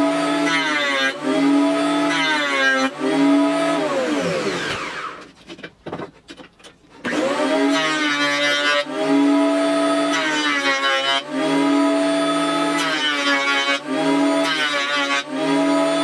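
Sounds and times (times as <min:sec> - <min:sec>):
jointer motor whining: 0:00.0 - 0:05.3, 0:07.0 - 0:16.0.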